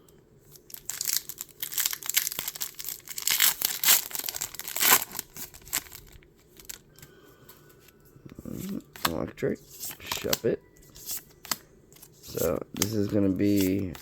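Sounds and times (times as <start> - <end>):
plastic packaging crinkling and tearing: 0.5 - 7.0, 8.5 - 14.0.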